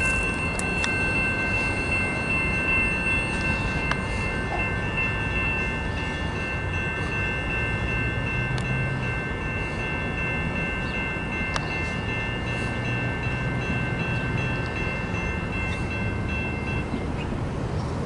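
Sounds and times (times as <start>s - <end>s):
high ringing tones: 0.0s - 17.2s
freight train cars rumbling: 0.0s - 18.0s.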